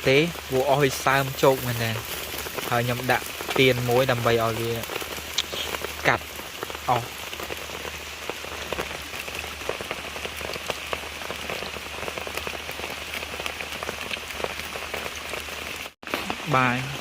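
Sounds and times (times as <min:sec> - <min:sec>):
raindrops tapping on a surface: 0:00.1 - 0:17.0.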